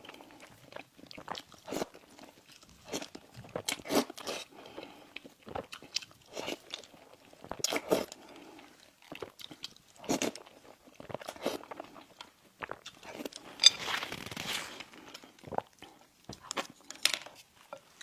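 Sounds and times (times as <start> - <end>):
crunchy pastry chewing: 0.0 - 17.5.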